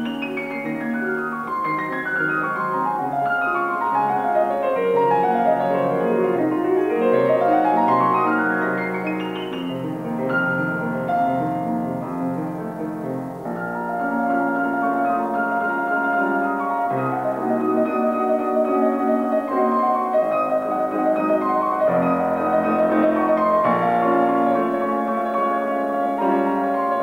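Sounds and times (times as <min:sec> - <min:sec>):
solo piano waltz: 0:00.0 - 0:27.0.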